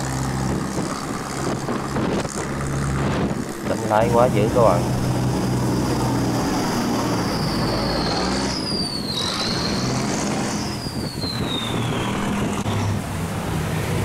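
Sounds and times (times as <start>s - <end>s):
diesel engine running: 0.0s - 14.0s
high thin whine: 0.0s - 14.0s.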